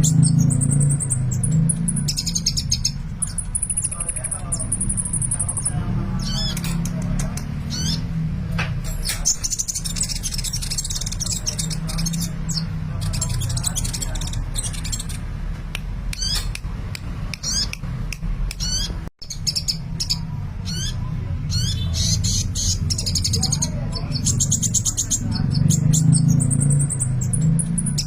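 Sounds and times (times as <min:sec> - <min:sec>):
bird chirping and trilling: 0:00.0 - 0:15.4, 0:16.0 - 0:28.0.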